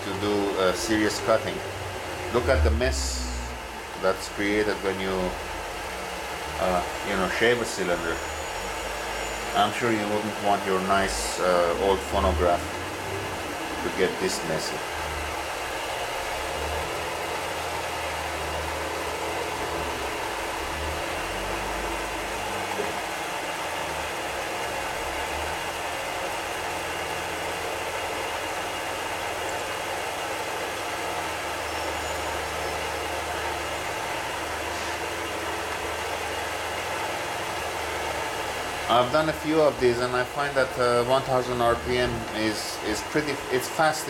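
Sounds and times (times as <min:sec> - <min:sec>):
lathe motor and gear whine: 0:00.0 - 0:44.0.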